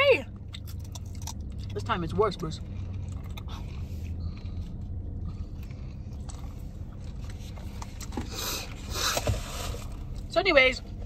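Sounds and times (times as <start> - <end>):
steady low hum: 0.0 - 11.0
person chewing food: 0.4 - 1.8, 2.5 - 10.3.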